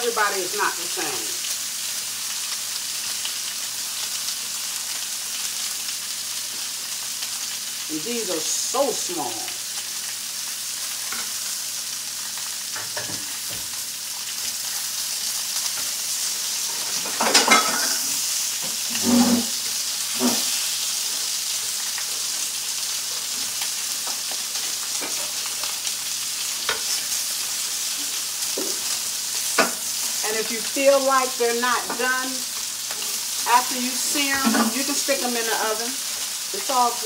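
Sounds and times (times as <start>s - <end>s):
meat sizzling in hot pans: 0.0s - 37.0s.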